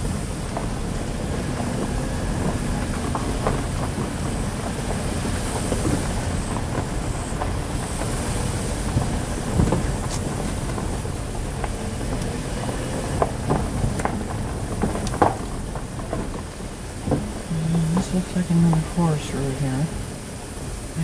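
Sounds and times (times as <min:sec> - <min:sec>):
car knocks and rattles: 0:00.0 - 0:18.8
car rumbling on dirt road: 0:00.0 - 0:21.0.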